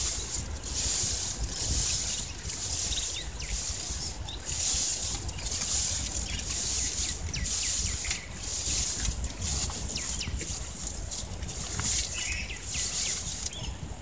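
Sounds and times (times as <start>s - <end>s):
birds chirping: 0.0s - 13.9s
wind rumbling on microphone: 0.0s - 14.0s.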